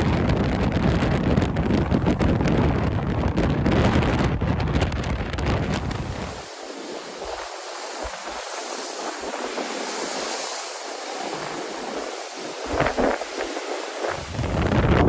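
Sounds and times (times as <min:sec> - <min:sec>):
heavy surf breaking: 0:00.0 - 0:15.0
wind buffeting microphone: 0:00.0 - 0:15.0.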